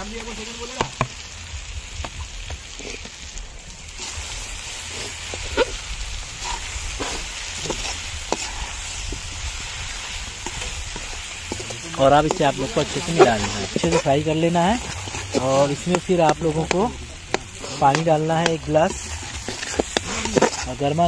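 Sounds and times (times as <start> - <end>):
gravy sizzling in a pan: 0.0 - 21.0
metal spatula scraping a pan: 4.0 - 21.0.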